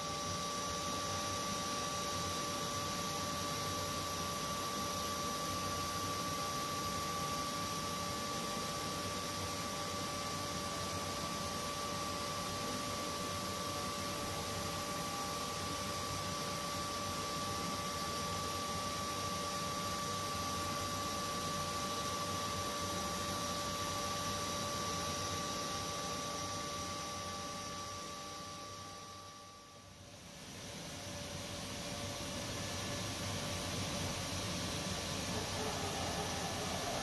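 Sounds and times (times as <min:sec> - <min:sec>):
machine hum and hiss: 0:00.0 - 0:37.0.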